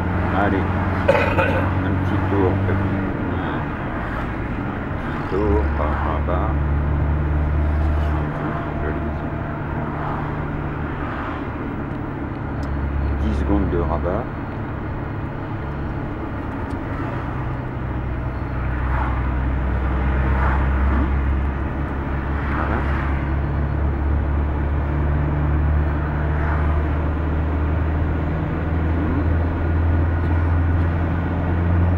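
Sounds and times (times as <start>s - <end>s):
car interior driving rumble: 0.0s - 31.9s.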